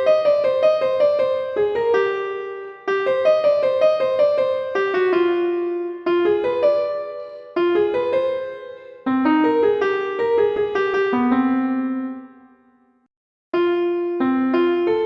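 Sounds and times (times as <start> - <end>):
piano-like ringtone melody: 0.0 - 13.0, 13.6 - 15.0.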